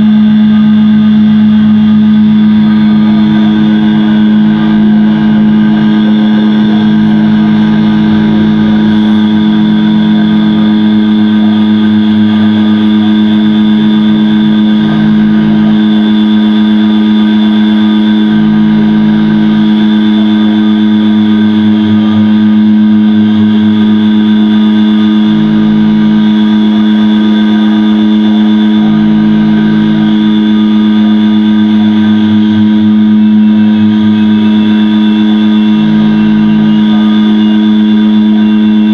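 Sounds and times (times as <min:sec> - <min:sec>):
electronic noise music drone: 0:00.0 - 0:38.9.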